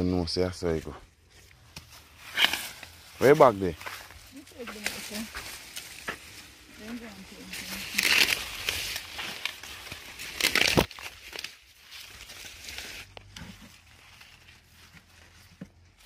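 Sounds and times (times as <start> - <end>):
dry corn leaves rustling: 0.7 - 16.0
leaves brushing microphone: 1.5 - 16.0.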